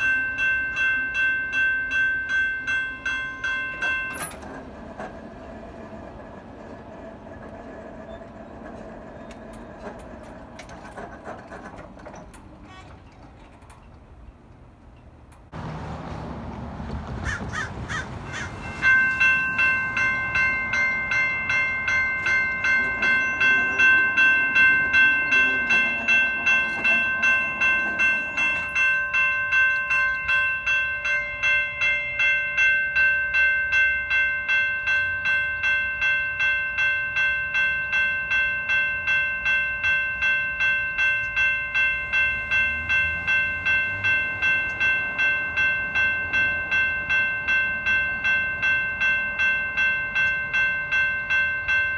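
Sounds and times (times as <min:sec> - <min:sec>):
railroad crossing bell ringing: 0:00.0 - 0:15.6, 0:17.6 - 0:51.9.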